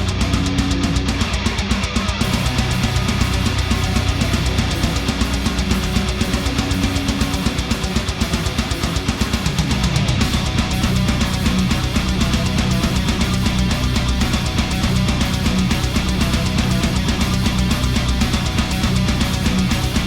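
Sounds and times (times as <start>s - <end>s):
distorted electric guitar: 0.0s - 20.0s
drum kit: 0.0s - 20.0s
heavy rock music: 0.0s - 20.0s.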